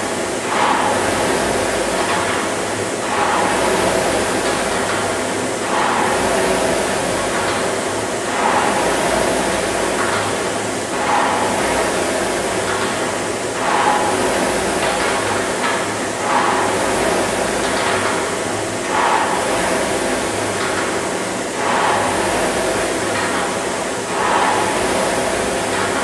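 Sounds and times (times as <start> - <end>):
rowing machine fan whirring: 0.0 - 26.0.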